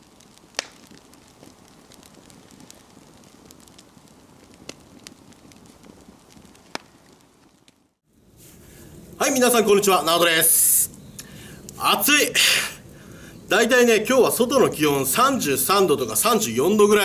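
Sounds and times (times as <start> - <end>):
firewood popping: 0.0 - 17.0
soft hiss of fire: 0.0 - 17.0
wood fire crackling: 0.0 - 17.0.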